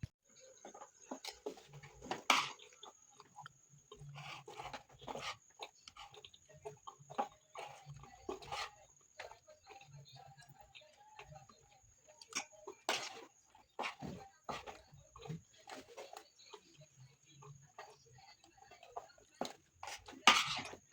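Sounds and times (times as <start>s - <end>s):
chewing food: 0.0s - 20.9s.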